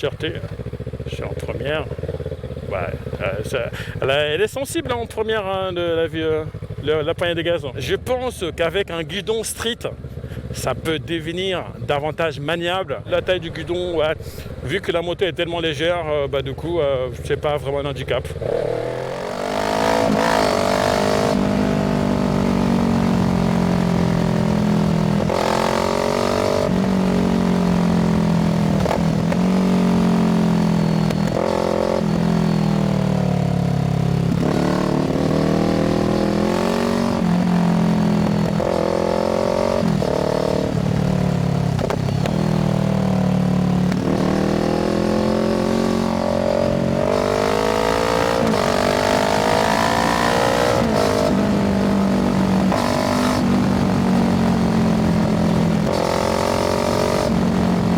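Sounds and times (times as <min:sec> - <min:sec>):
motorcycle engine revving: 0:00.0 - 0:07.3, 0:17.2 - 0:57.9.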